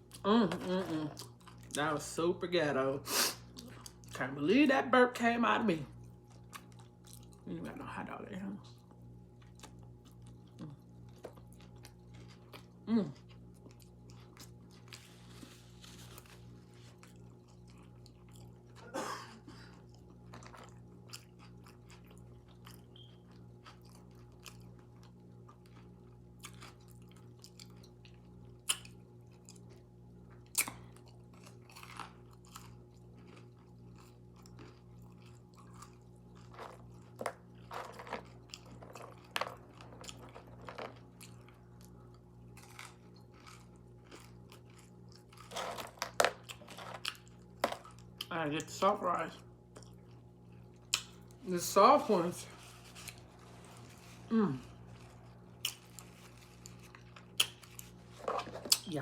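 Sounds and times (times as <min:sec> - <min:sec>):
person chewing food: 0:00.0 - 0:01.8, 0:03.4 - 0:04.2, 0:06.0 - 0:07.4, 0:08.8 - 0:18.9, 0:19.6 - 0:48.3, 0:49.6 - 0:51.4, 0:52.6 - 0:58.9
steady low hum: 0:00.0 - 0:59.0.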